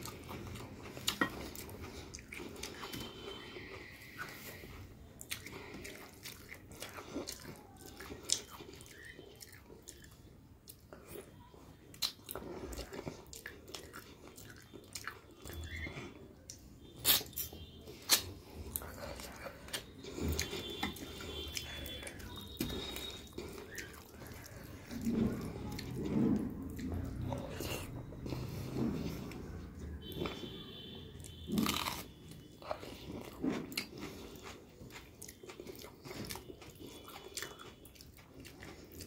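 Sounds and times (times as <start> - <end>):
chewing and wet mouth sounds: 0.0 - 39.0.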